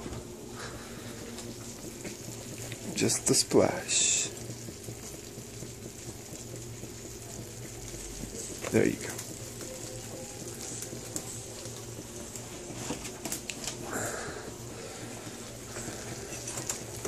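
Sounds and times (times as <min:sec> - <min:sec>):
food sizzling in pans: 0:00.0 - 0:17.0.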